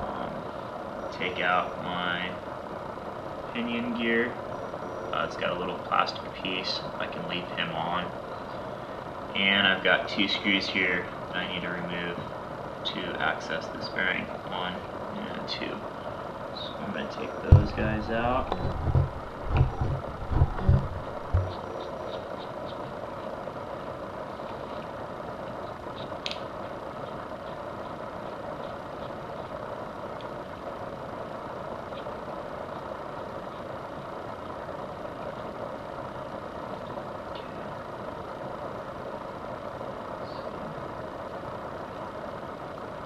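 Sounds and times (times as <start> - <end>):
steady background drone: 0.0 - 43.0.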